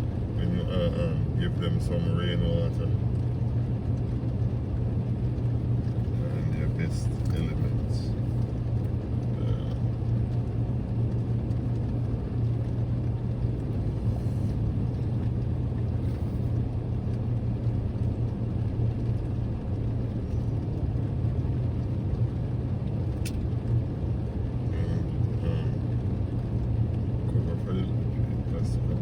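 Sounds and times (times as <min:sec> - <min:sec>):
car engine hum: 0:00.0 - 0:29.0
road noise: 0:00.0 - 0:29.0.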